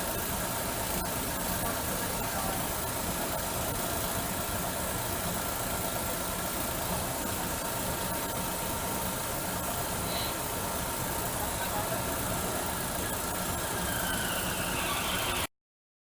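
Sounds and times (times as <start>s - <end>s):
constant hum tones: 0.0s - 15.5s
engine drone: 0.0s - 15.5s.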